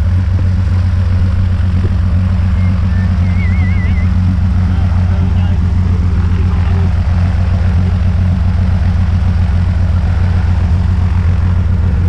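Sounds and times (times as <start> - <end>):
propeller engine idling: 0.0 - 12.0.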